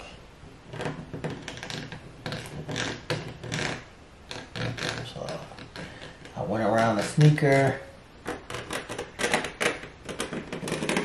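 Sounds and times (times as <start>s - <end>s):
pen scratching on plastic: 0.7s - 11.0s.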